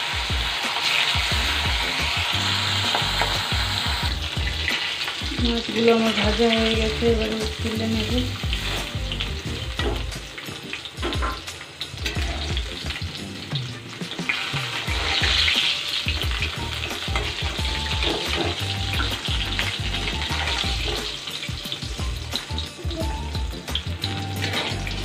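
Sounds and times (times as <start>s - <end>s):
fish sizzling in hot oil: 0.0s - 25.0s.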